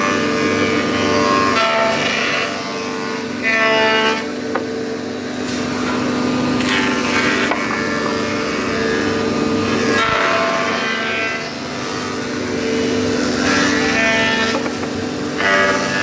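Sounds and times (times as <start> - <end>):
planing machine humming: 0.0 - 16.0.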